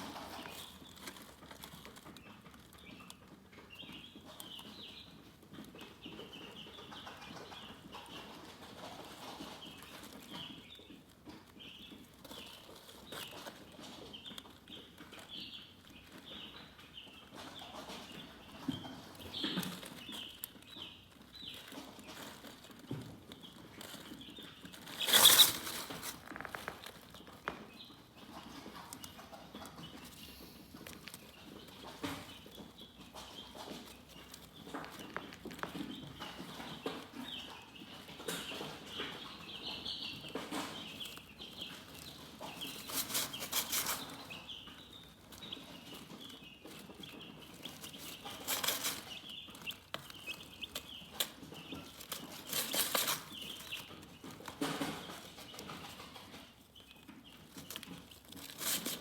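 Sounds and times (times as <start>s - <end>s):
chickens peeping: 0.0s - 59.0s.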